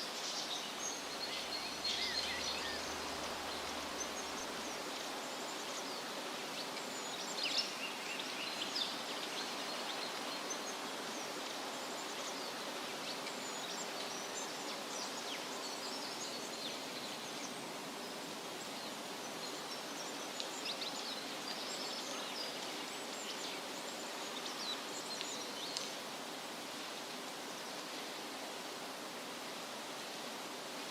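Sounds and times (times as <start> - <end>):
wind rustling through leaves: 0.0 - 30.9.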